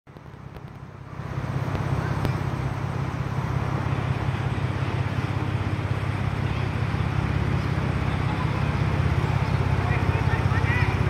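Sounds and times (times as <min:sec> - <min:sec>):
car engine idling: 0:00.1 - 0:11.0.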